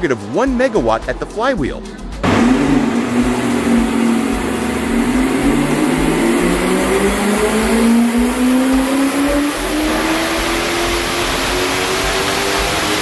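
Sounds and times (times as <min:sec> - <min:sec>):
car engine revving at full throttle: 0:02.2 - 0:13.0.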